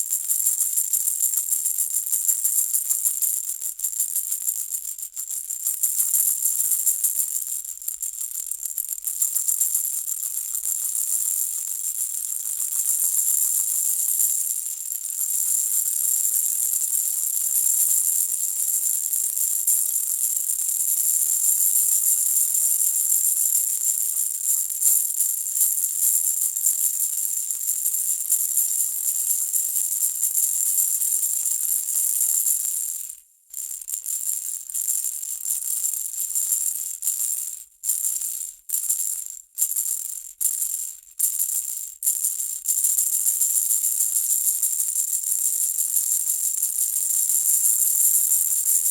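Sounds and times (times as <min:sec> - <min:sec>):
baby rattle shaken: 0:00.0 - 0:48.9.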